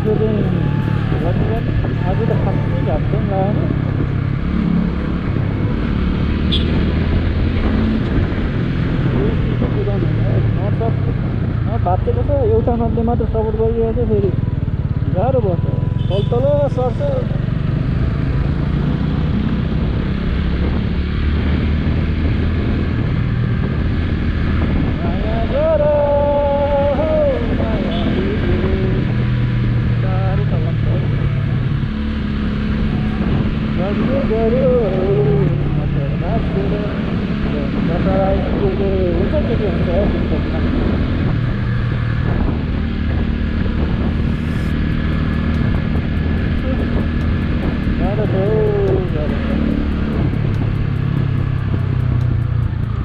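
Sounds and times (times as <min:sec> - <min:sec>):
motorcycle engine drone: 0:00.0 - 0:53.0
ride noise: 0:00.0 - 0:53.0
wind and road noise: 0:00.0 - 0:53.0.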